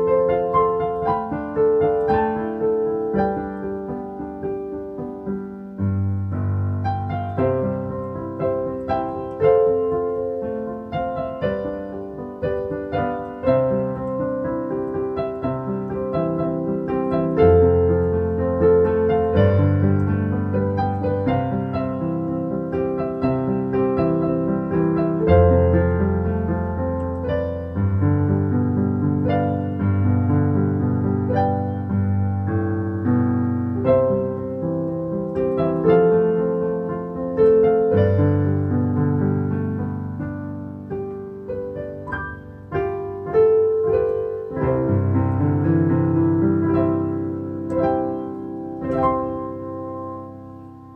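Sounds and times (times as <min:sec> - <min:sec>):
solo piano melody: 0:00.0 - 0:50.9.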